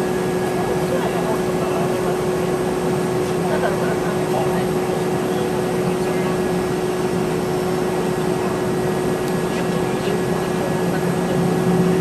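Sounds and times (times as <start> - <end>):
airplane cabin noise: 0.0 - 12.0
constant hum tone: 0.0 - 12.0.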